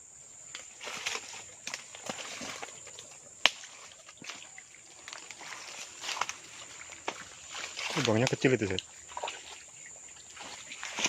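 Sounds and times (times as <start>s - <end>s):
rustling and scuffing: 0.6s - 11.0s.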